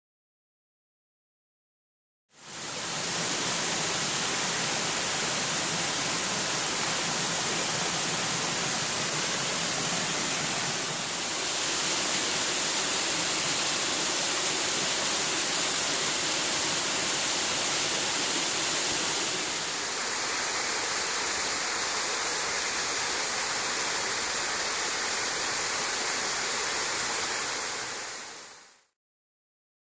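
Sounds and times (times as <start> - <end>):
waterfall rushing over rocks: 2.4 - 28.9.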